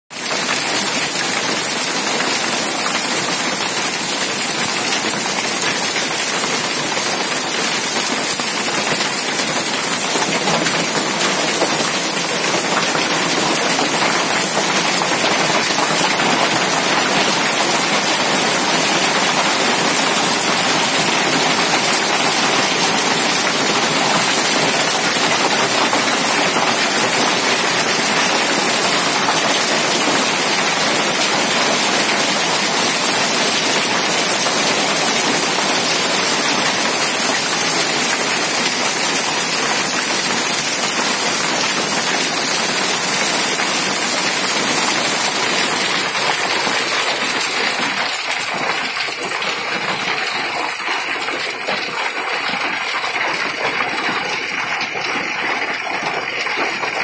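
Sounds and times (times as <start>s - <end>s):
heavy rain and hail pelting: 0.2s - 57.0s.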